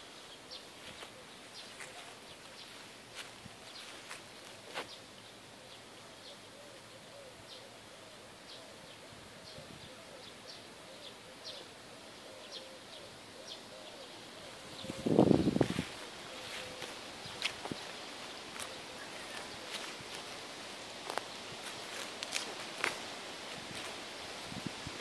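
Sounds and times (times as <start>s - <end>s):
wild birds chirping: 0.0s - 25.0s.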